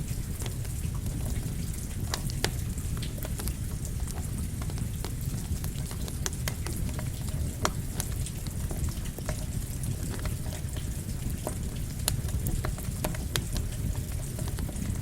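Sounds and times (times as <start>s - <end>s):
campfire crackling: 0.0s - 15.0s
rain falling: 0.0s - 15.0s.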